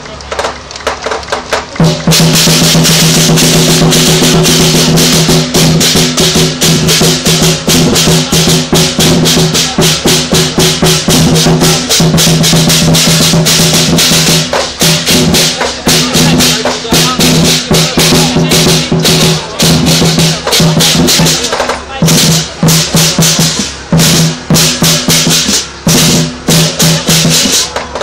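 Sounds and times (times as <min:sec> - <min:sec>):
rapid drum strokes: 0:00.2 - 0:28.0
crashing cymbals: 0:01.9 - 0:27.8.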